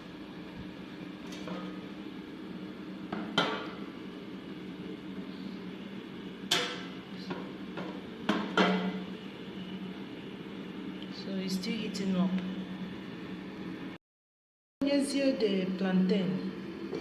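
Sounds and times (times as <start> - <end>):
air fryer fan humming: 0.0 - 14.0, 14.8 - 17.0.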